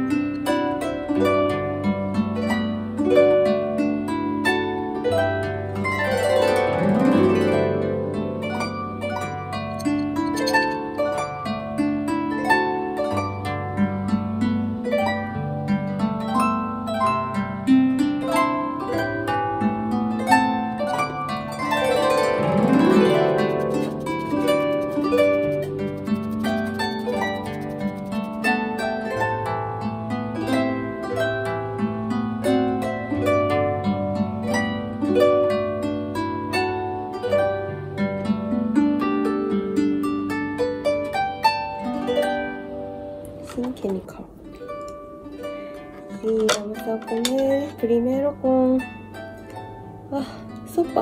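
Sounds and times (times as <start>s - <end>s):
harp music: 0.0s - 51.0s.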